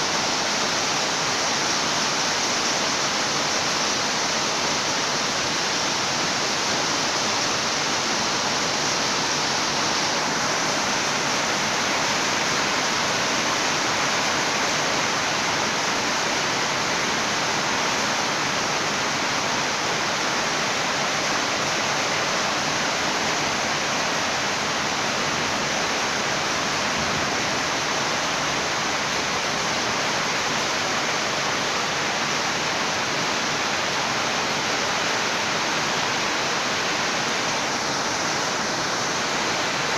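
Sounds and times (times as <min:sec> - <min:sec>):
heavy rainfall hiss: 0:00.0 - 0:39.9.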